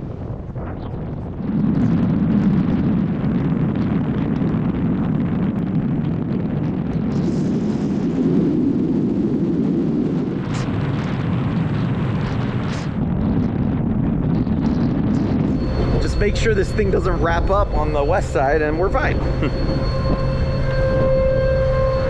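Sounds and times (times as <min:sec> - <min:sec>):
road and wind noise in a car: 0:00.0 - 0:22.0.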